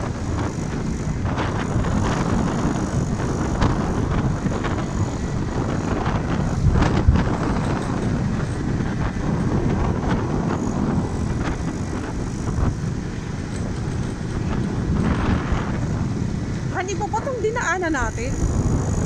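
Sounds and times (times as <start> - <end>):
motorcycle engine: 0.0 - 19.0
wind rumbling on microphone: 0.0 - 19.0.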